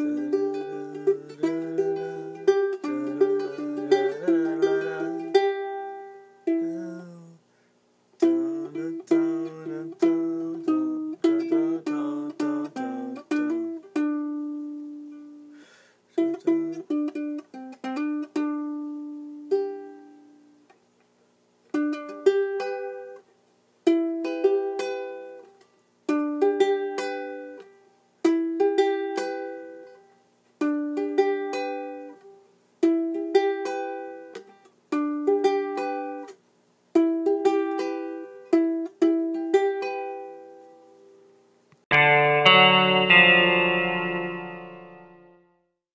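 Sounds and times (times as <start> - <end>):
plucked string instrument: 0.0 - 7.4, 8.2 - 20.7, 21.7 - 41.0, 41.9 - 45.6.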